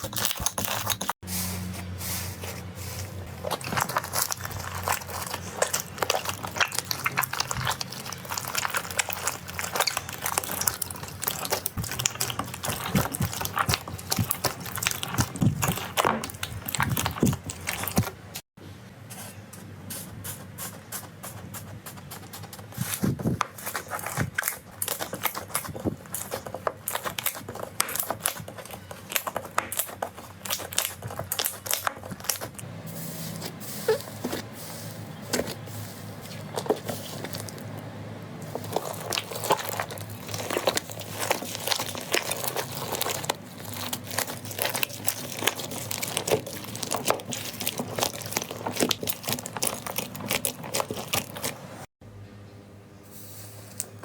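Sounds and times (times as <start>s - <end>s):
slime crackling and squishing: 0.0s - 18.4s, 20.6s - 51.9s.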